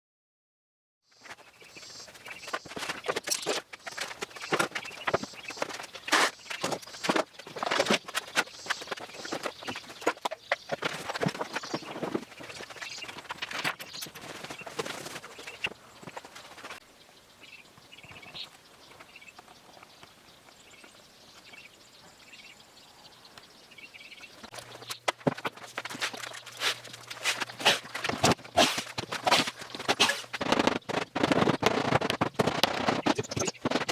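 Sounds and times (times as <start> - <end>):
faint chirps: 1.1 - 31.6, 32.8 - 33.9.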